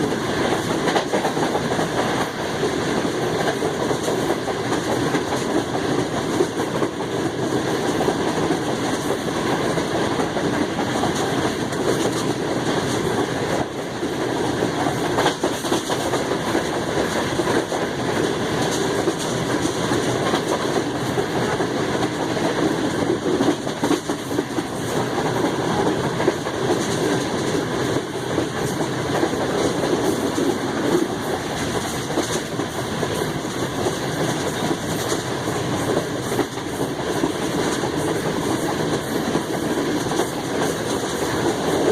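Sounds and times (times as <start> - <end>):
train wheels rumbling on track: 0.0 - 41.9
faint rail clicks: 7.7 - 41.9.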